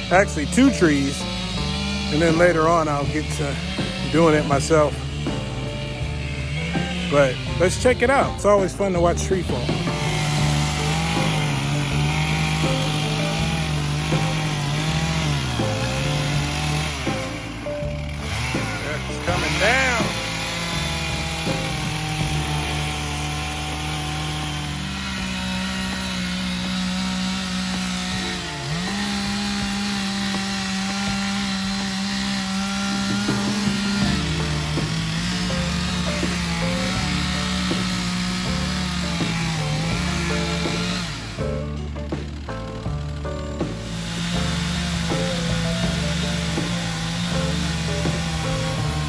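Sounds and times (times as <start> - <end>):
chainsaw cutting tree: 0.0 - 49.0.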